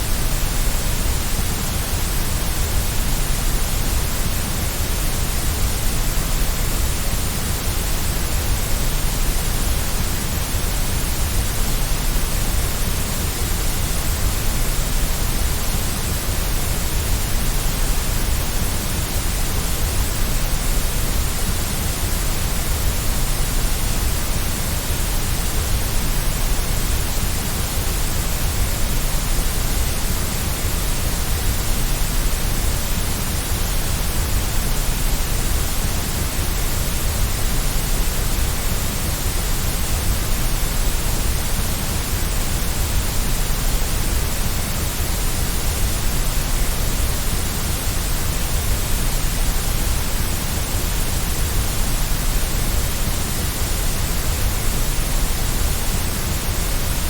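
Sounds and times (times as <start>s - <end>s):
white noise hiss with low rumble: 0.0s - 57.0s.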